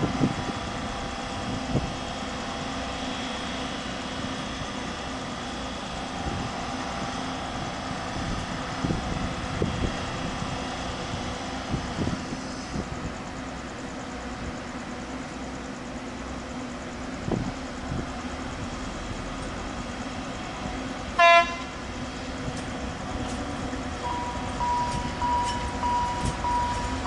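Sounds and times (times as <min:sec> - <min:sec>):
diesel locomotive running: 0:00.0 - 0:27.0.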